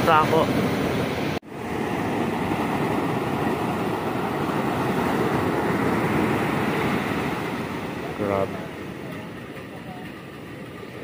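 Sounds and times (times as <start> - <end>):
surf rushing: 0.0 - 11.0
wind: 0.0 - 11.0.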